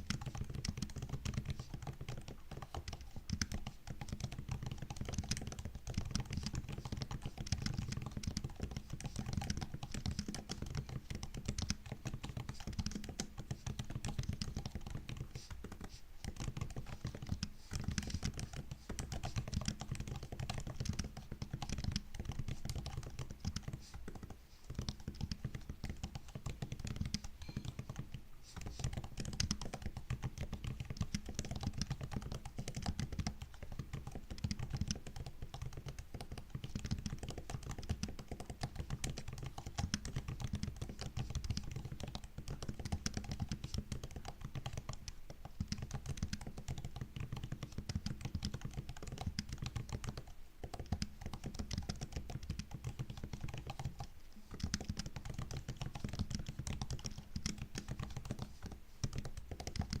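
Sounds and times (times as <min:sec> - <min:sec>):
laptop keyboard typing: 0:00.0 - 1:00.0.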